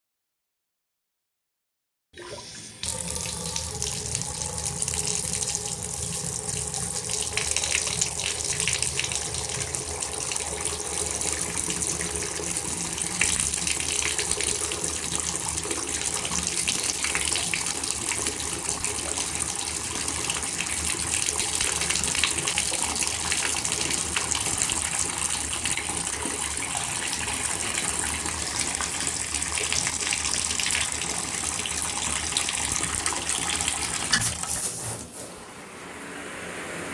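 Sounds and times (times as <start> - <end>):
faucet water running into tub: 2.2 - 35.4.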